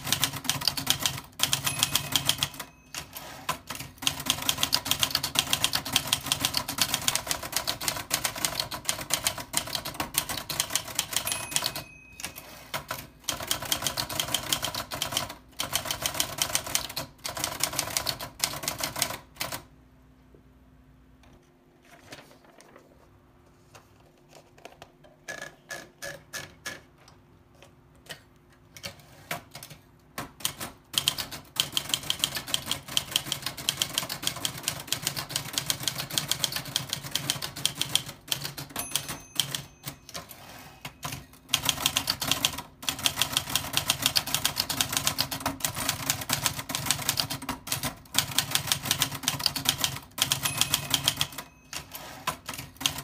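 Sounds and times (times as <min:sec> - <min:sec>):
typewriter typing: 0:00.0 - 0:19.7, 0:28.8 - 0:53.0.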